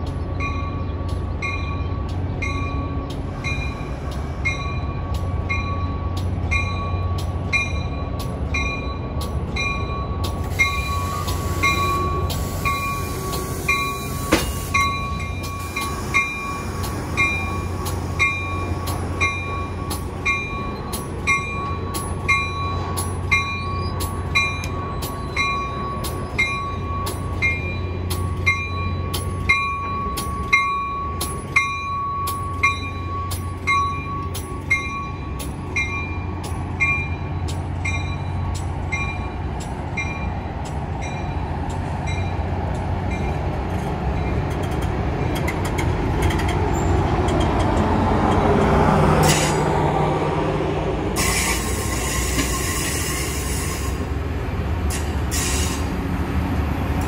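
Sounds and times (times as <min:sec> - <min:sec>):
passenger train rolling past: 0:00.0 - 0:57.0.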